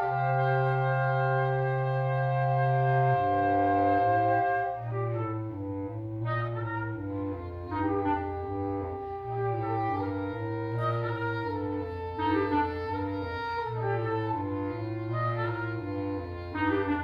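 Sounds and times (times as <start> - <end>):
woodwind quintet playing: 0.0 - 17.0.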